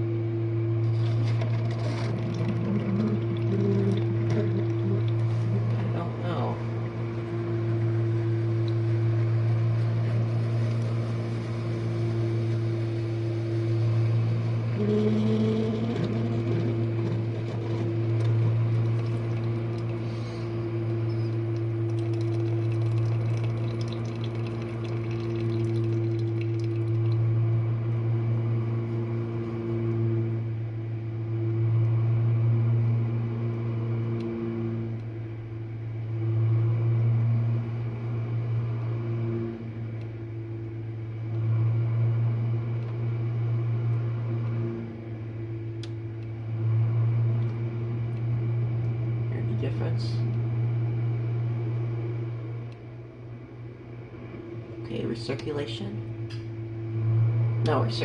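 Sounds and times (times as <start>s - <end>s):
dishwasher motor hum: 0.0s - 58.0s.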